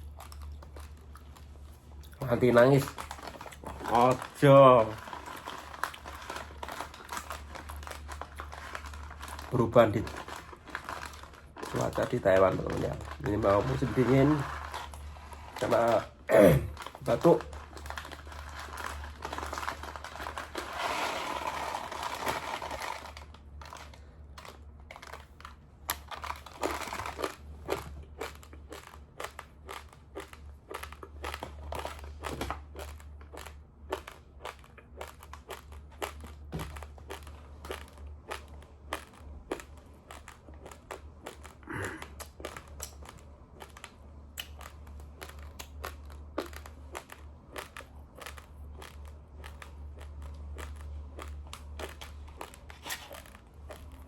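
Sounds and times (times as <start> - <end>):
steady low hum: 0.0 - 54.0
uncooked rice crunching: 0.0 - 54.0.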